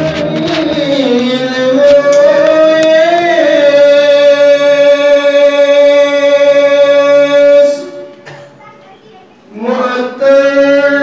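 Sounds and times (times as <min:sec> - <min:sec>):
man singing unaccompanied: 0:00.0 - 0:08.2, 0:09.5 - 0:11.0.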